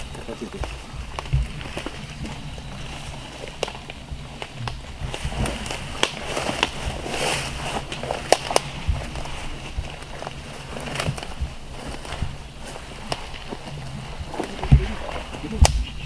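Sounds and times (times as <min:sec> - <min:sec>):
footsteps crunching dry leaves: 0:00.0 - 0:16.0
twigs snapping: 0:03.1 - 0:16.0.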